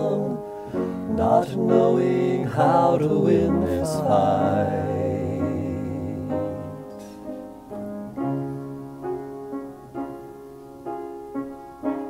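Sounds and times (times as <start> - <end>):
upright piano playing chords: 0.0 - 12.0.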